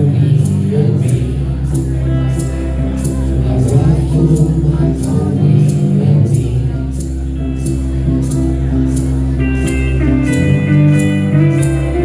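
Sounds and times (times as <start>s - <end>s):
live country-rock band: 0.0s - 12.0s.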